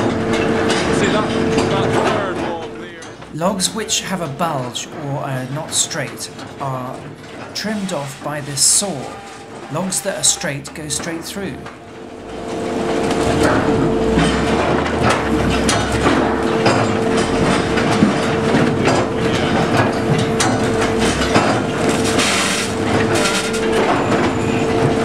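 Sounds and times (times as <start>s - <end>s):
conveyor clattering: 0.0s - 25.0s
machine hum: 0.0s - 25.0s.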